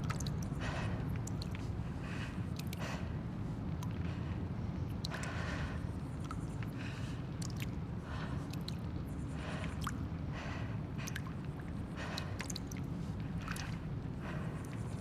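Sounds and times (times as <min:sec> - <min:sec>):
rustling and dripping: 0:00.0 - 0:15.0.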